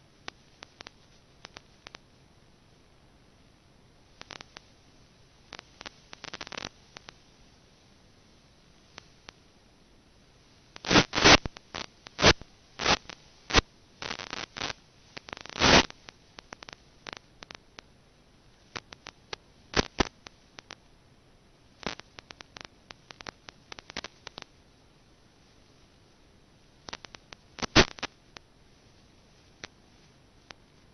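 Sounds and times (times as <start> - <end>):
crackling static: 0.0 - 30.9
faint hiss: 0.0 - 30.9.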